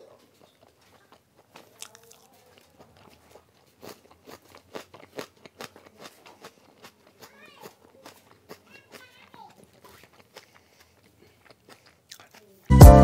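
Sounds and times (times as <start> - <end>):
chewing food: 0.0 - 12.7
wet mouth smacks and clicks: 0.4 - 12.5.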